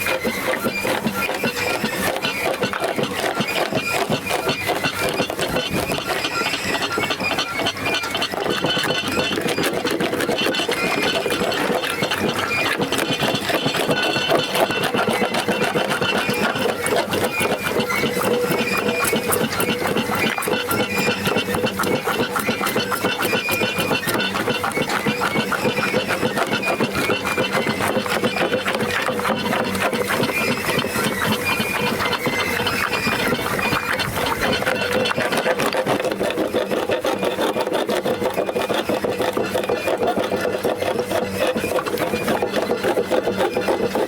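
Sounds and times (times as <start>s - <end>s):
machine clattering and squealing: 0.0s - 44.0s.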